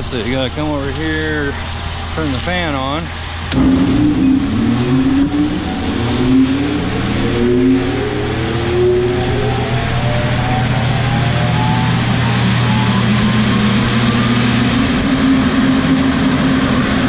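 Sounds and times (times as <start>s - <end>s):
drying fan spinning up: 0.0s - 17.0s.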